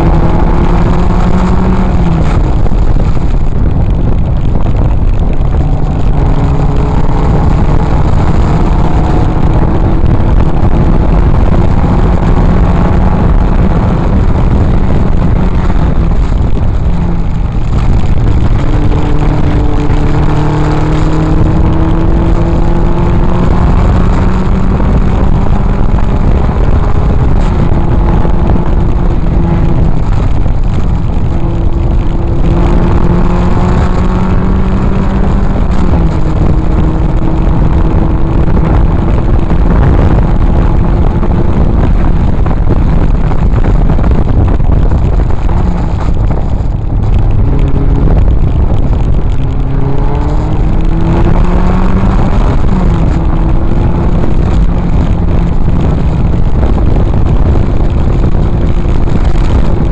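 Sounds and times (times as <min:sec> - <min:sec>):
car engine accelerating: 0:00.0 - 0:59.9
wind and road noise: 0:00.0 - 0:59.9.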